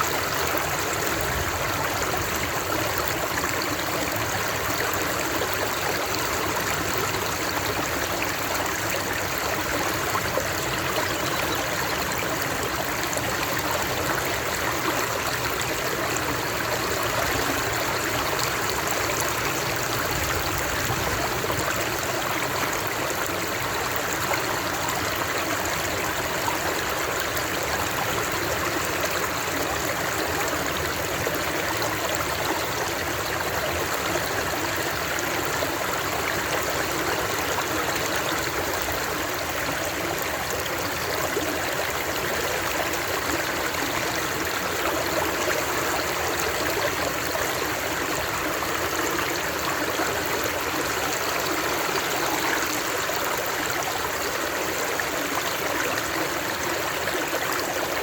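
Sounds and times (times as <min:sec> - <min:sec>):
stream water rushing and trickling: 0:00.0 - 0:58.0.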